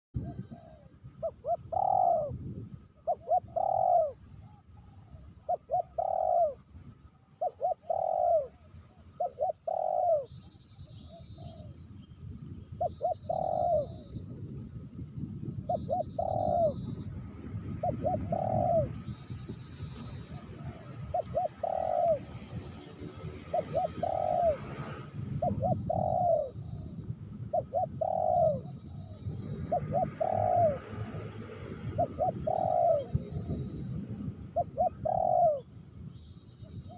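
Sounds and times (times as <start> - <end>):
doves cooing: 0.2 - 2.4, 3.0 - 11.8, 12.8 - 14.2, 15.7 - 17.2, 17.8 - 35.7.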